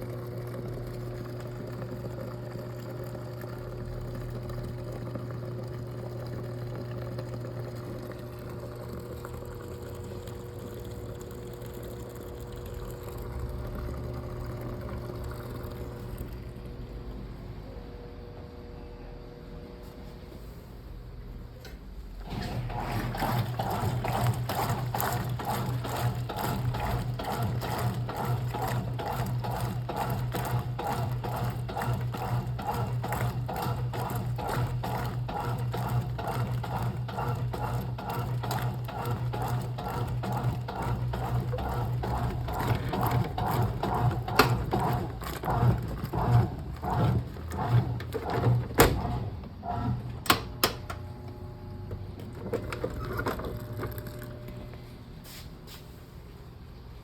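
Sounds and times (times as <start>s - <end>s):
washing machine agitating: 0.0s - 17.6s, 22.0s - 51.0s.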